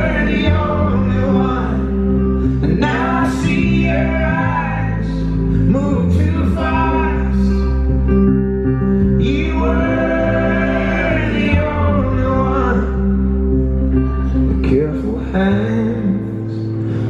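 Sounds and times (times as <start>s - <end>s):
man singing: 0.0s - 7.9s, 9.0s - 13.4s, 14.4s - 16.9s.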